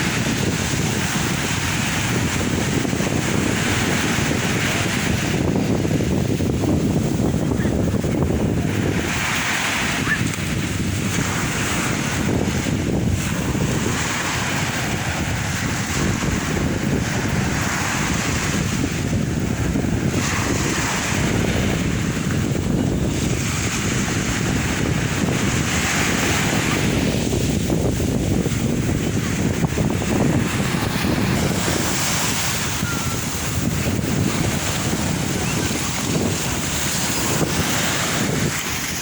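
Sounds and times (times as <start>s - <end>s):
sea surf washing in: 0.0s - 39.0s
wind rumble on microphone: 0.0s - 39.0s.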